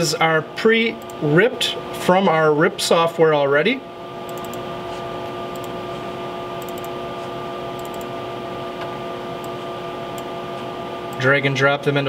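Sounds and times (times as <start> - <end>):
equipment hum: 0.0 - 12.0.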